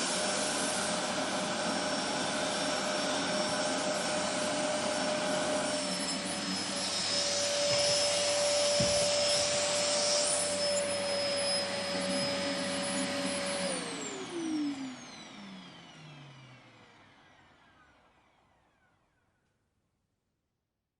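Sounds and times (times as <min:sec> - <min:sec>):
vacuum cleaner running: 0:00.0 - 0:19.5.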